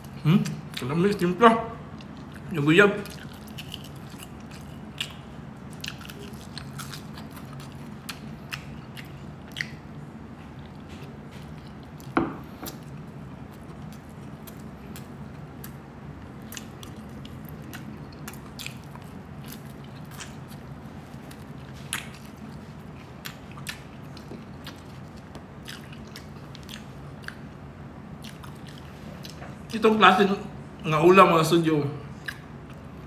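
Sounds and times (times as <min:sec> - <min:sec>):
steady low hum: 0:00.0 - 0:33.0
chewing crunchy food: 0:01.8 - 0:29.8, 0:32.1 - 0:33.0.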